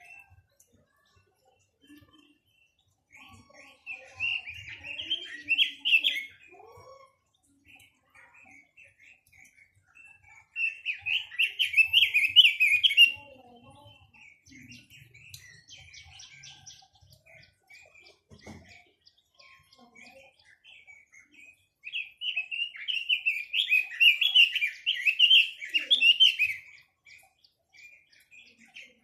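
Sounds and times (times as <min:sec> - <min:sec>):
songbird chirping song: 0:00.0 - 0:29.0.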